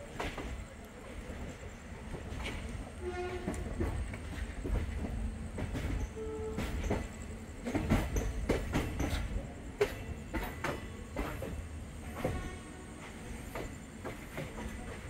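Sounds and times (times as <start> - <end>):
train coach rumbling: 0.0 - 15.0
wheels clacking over rail joints: 0.0 - 15.0.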